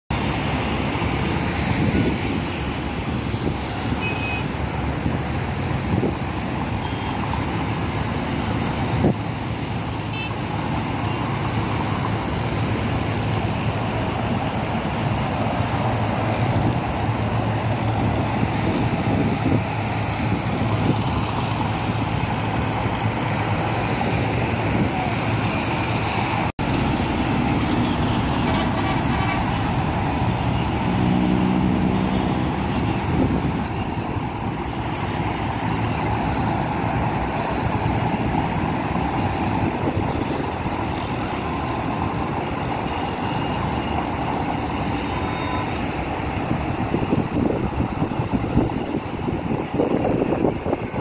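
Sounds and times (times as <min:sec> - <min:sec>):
highway traffic: 0:00.0 - 0:51.0
heavy engine low drone: 0:00.1 - 0:51.0.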